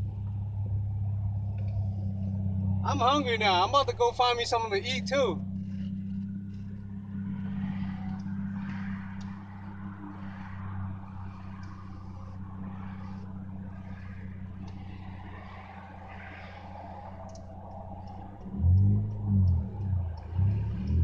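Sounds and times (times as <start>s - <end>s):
car engine drone: 0.0s - 21.0s
road and tyre noise: 0.0s - 21.0s.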